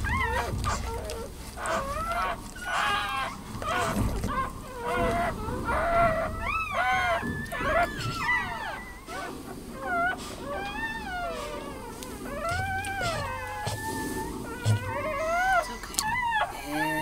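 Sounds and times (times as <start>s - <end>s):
puppy squealing: 0.0s - 17.0s.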